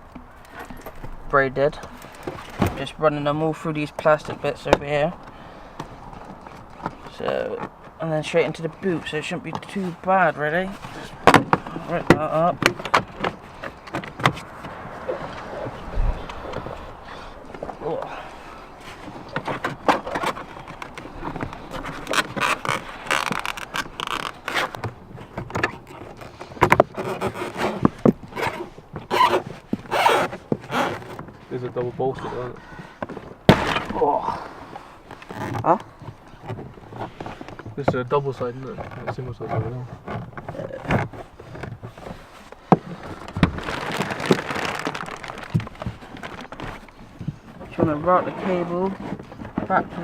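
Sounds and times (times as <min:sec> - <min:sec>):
rustling and scraping: 0:00.0 - 0:50.0.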